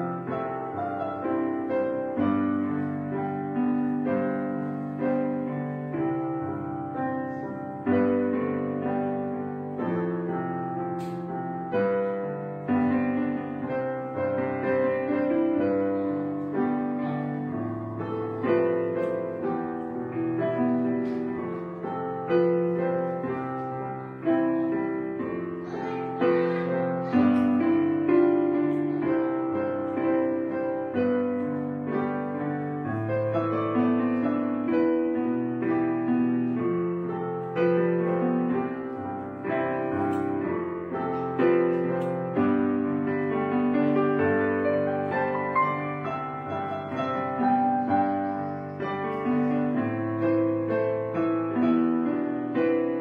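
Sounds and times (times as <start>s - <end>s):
soft piano chords: 0.0s - 53.0s.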